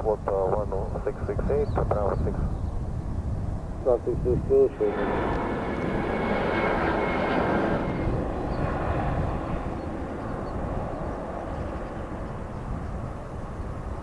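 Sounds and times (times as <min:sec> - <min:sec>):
jet airliner engines: 0:00.0 - 0:14.0.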